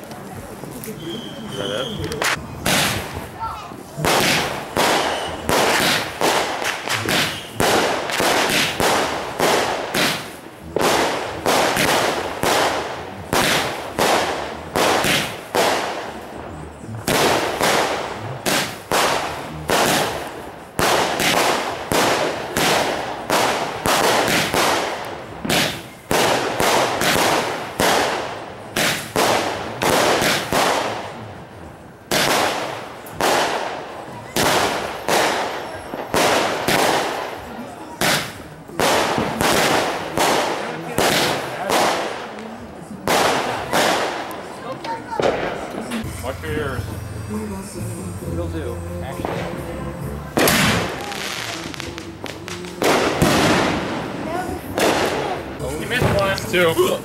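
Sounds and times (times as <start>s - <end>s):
fireworks bangs with crackling: 0.0s - 46.2s, 49.2s - 57.0s.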